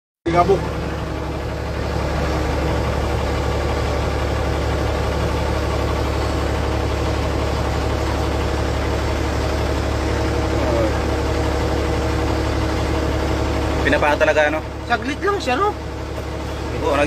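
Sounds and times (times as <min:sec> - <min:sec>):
helicopter engines and rotor: 0:00.3 - 0:17.0.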